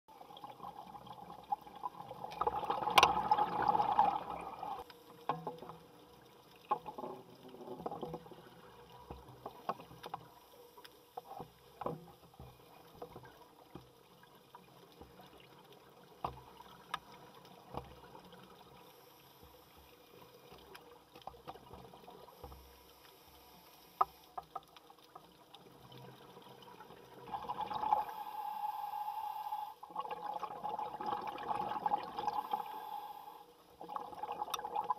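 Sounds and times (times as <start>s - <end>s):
underwater ambience: 0.1s - 34.9s.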